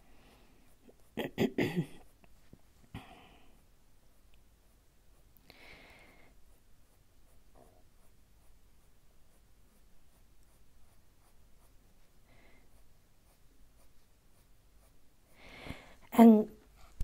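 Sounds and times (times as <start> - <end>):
pencil scratching on paper: 0.0 - 2.8, 3.6 - 5.4, 6.0 - 17.0.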